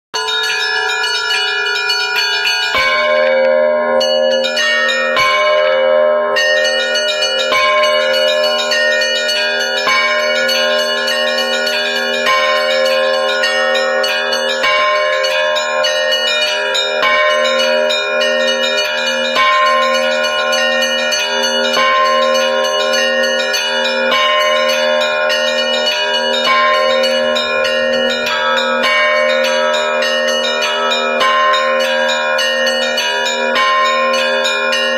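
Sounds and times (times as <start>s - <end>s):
deep bell striking: 0.2s - 34.9s
small bells ringing rapidly: 0.2s - 34.9s.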